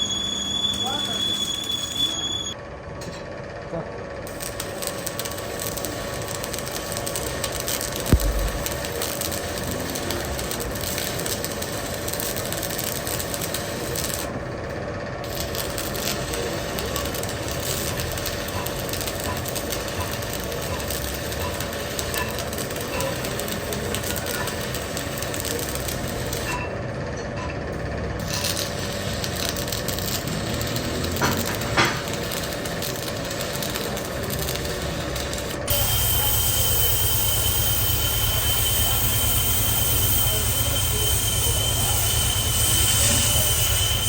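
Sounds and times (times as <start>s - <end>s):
machine hum with high whine: 0.0s - 39.6s
workshop machinery running: 0.0s - 44.0s.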